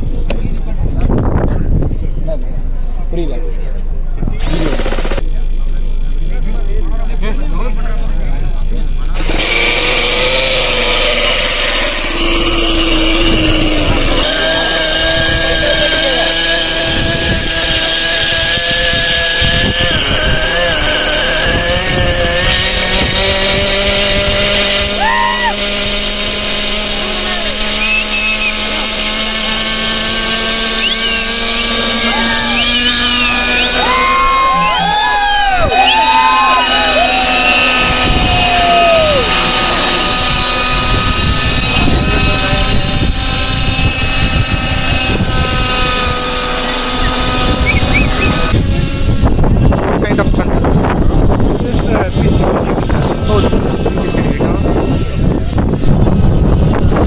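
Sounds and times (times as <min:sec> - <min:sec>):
helicopter rotors rushing: 0:04.0 - 0:05.5, 0:09.1 - 0:57.0
small model engine running: 0:04.4 - 0:57.0.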